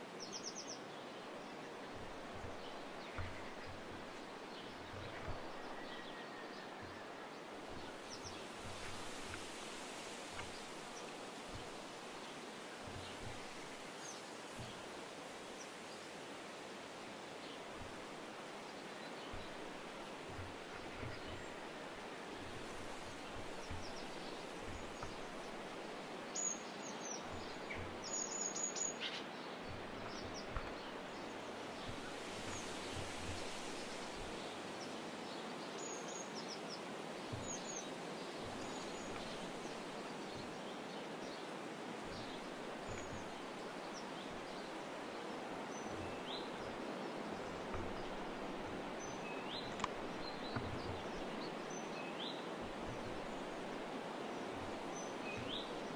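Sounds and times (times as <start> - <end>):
outdoor hiss: 0.0 - 55.9
songbirds chirping: 0.0 - 55.9.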